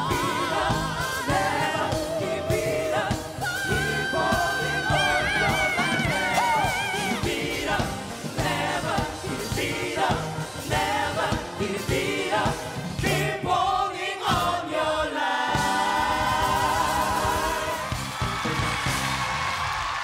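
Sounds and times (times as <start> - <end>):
singers singing together: 0.0 - 19.1
drums: 0.0 - 20.0.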